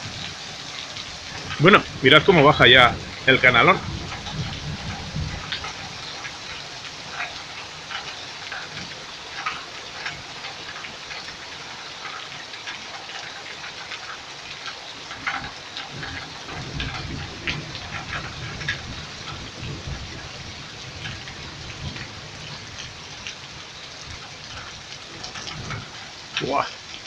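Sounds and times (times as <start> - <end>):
torrential rain pouring: 0.0 - 27.0
water running down a gutter: 0.0 - 27.0.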